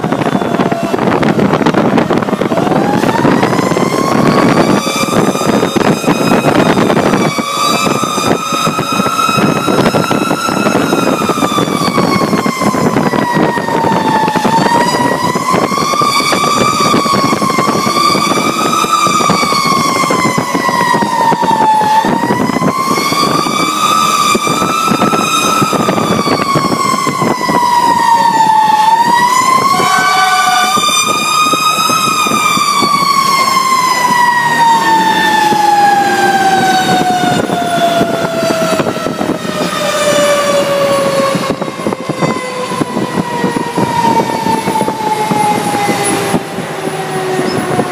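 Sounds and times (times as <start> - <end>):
engine and road noise: 0.0 - 47.9
fire truck siren wailing: 0.0 - 47.9.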